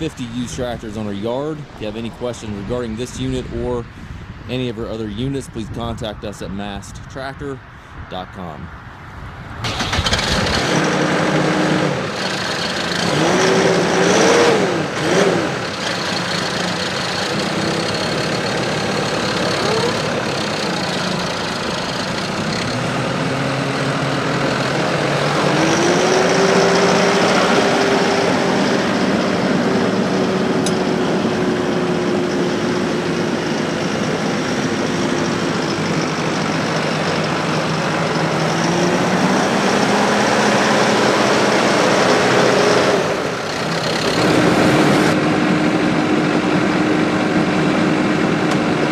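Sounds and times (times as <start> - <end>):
diesel engine revving: 9.6 - 48.9.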